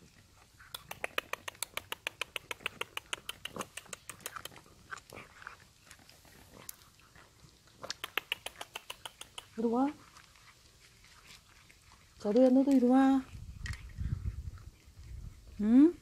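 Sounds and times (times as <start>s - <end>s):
cats crunching dry kibble: 0.0s - 15.7s.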